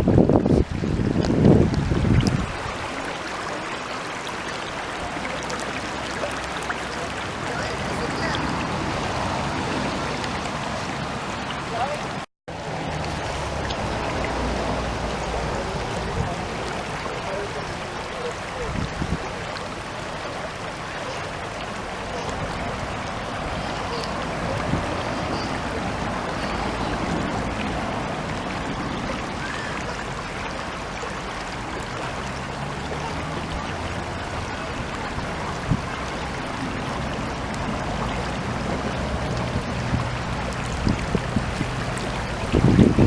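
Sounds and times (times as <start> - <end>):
mountain stream rushing: 0.0 - 43.0.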